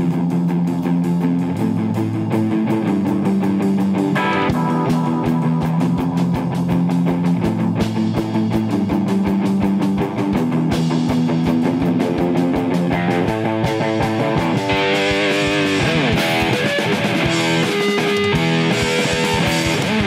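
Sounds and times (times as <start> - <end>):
drum kit beat with cymbals: 0.0 - 20.0
electric guitar chords: 0.0 - 20.0.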